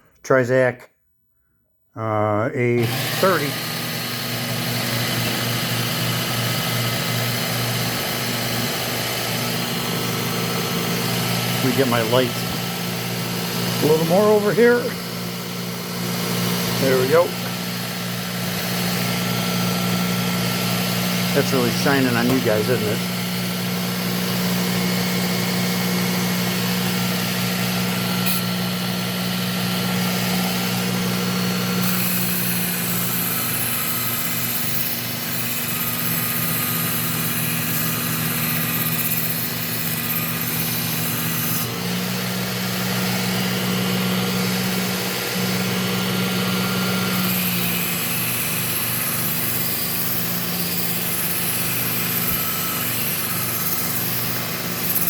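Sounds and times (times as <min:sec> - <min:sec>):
belt sharpener motor hum: 0:02.8 - 0:55.0.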